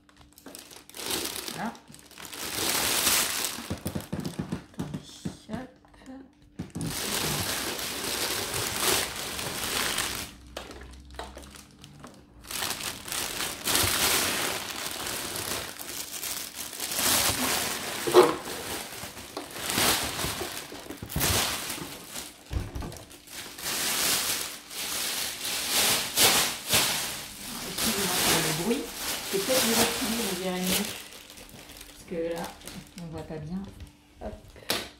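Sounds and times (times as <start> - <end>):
plastic bag crinkling: 0.0 - 4.9, 6.7 - 33.9.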